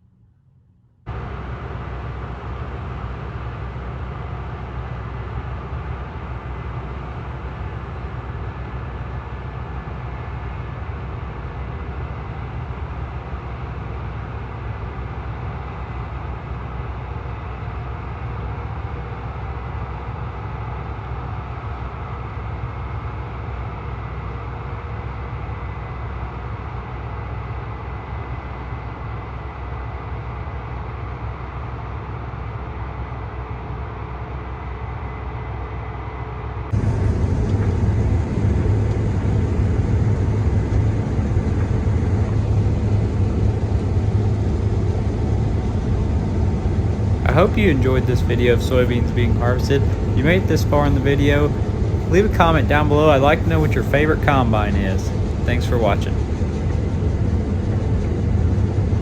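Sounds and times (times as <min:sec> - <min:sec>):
faint steady whines: 0:00.0 - 0:59.0
diesel engine hum: 0:01.1 - 0:59.0.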